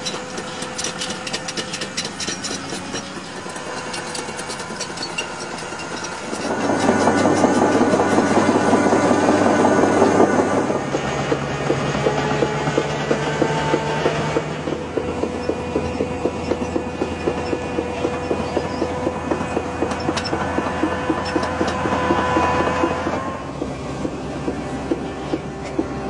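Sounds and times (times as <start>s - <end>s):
fast regular clatter: 0.0s - 26.0s
machine engine hum: 0.0s - 26.0s.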